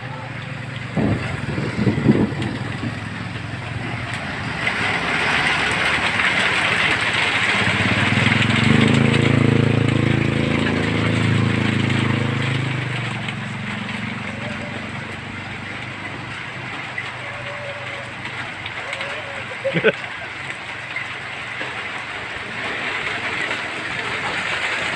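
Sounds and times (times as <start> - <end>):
tyre and road noise: 0.0 - 24.9
vehicle engine hum: 0.0 - 24.9.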